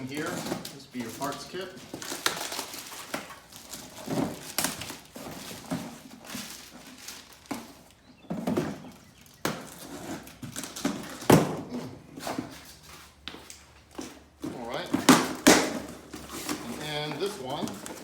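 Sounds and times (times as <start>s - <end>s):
rustling of packaging: 0.0s - 18.0s.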